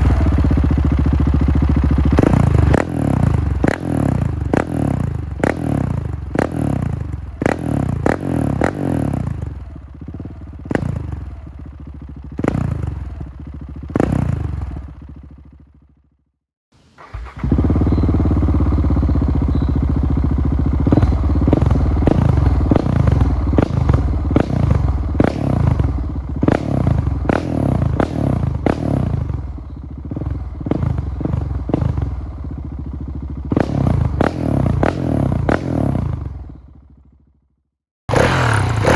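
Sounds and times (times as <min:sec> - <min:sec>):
motorcycle engine revving: 0:00.0 - 0:16.1, 0:16.8 - 0:37.3, 0:38.1 - 0:38.9.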